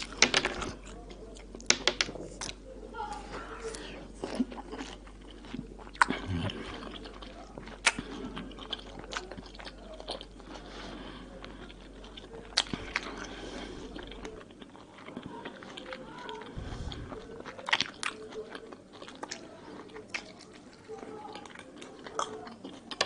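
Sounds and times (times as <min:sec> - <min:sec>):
person chewing mandarin segments: 0:00.0 - 0:02.6, 0:03.6 - 0:23.0.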